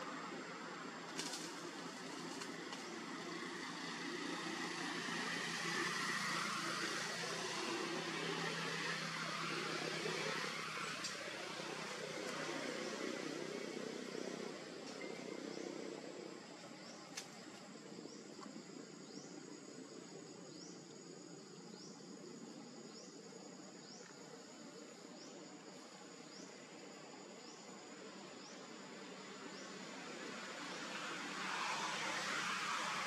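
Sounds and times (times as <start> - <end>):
faint outdoor ambience: 0.0 - 33.0
insects buzzing: 0.0 - 33.0
rising insect chirp: 0.0 - 33.0.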